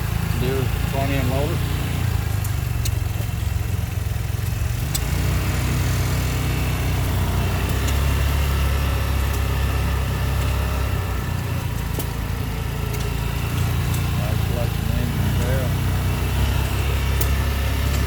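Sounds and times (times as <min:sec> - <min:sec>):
small engine droning: 0:00.0 - 0:18.0.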